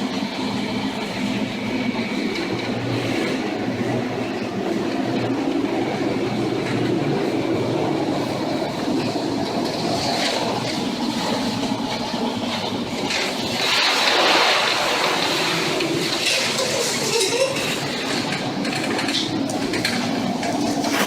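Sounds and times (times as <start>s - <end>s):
heavy seas rushing: 0.0s - 21.0s
storm wind: 0.0s - 21.0s.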